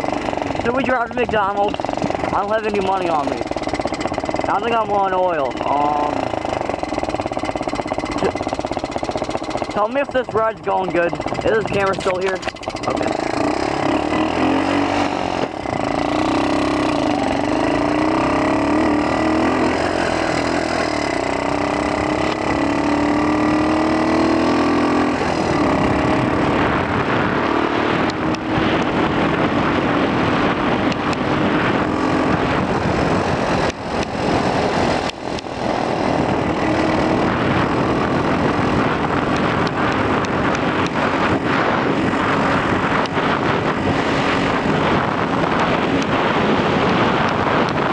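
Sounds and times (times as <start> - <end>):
small two-stroke engine running: 0.0 - 47.9
wind buffeting microphone: 0.0 - 47.9.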